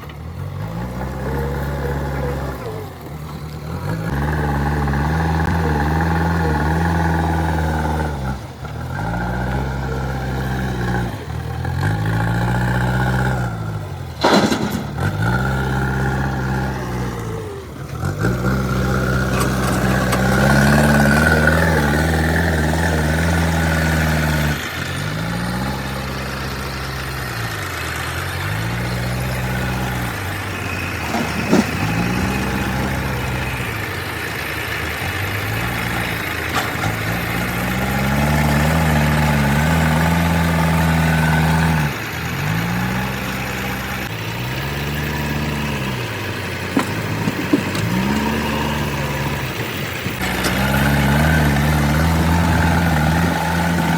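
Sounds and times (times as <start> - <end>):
diesel engine under hydraulic load: 0.0 - 53.9.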